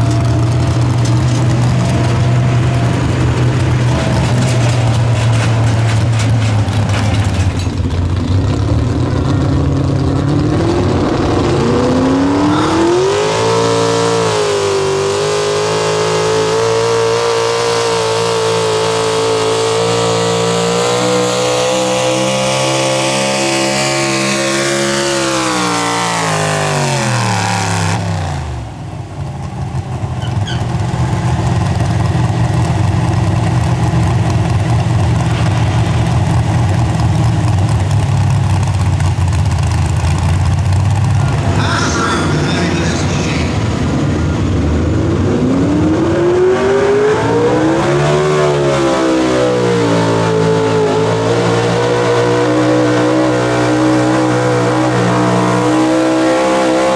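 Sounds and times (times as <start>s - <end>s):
engine idling and revving: 0.0s - 56.9s.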